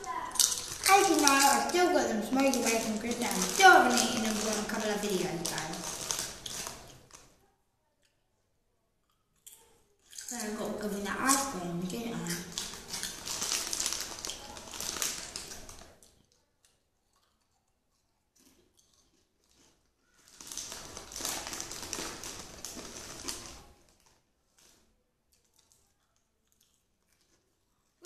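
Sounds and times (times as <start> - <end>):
snack wrapper crinkling: 0.0 - 7.4, 9.0 - 28.0.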